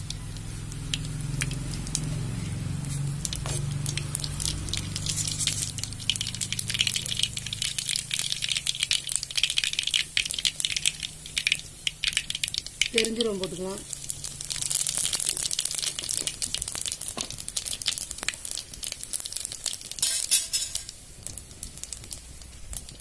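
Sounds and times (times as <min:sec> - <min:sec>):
seeds popping in hot oil: 0:00.0 - 0:23.0.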